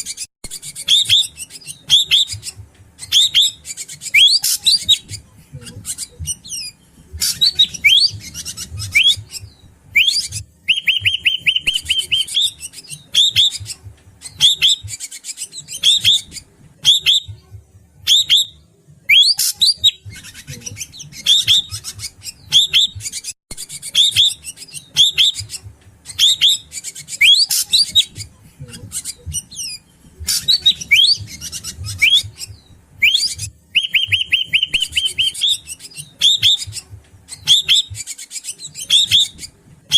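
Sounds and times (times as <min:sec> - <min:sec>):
bird whistling and chattering: 0:00.0 - 0:17.4, 0:18.0 - 0:39.9.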